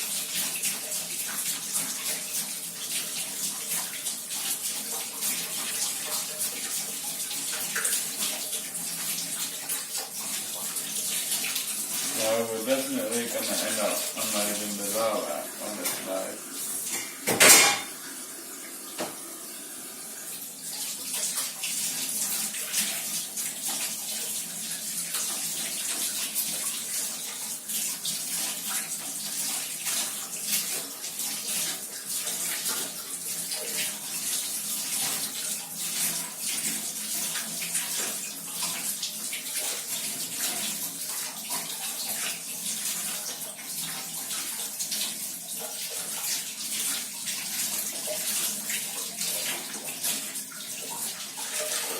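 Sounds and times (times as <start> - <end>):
water running from a tap: 0.0 - 51.9
water splashing over a filter: 0.0 - 51.9.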